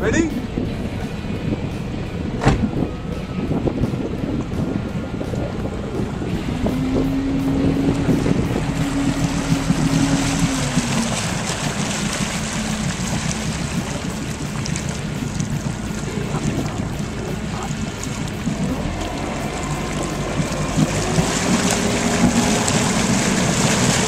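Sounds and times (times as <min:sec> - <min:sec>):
motorboat engine running: 0:00.0 - 0:24.0
water rushing past hull: 0:00.0 - 0:24.0
wind buffeting microphone: 0:00.0 - 0:24.0.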